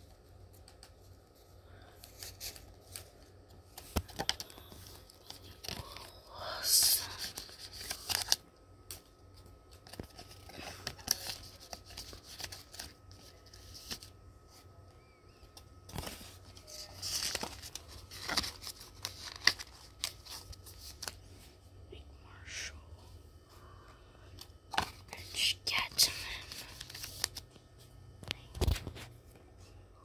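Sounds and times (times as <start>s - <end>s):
plastic binder pages crinkling: 0.1s - 21.3s, 24.3s - 29.4s.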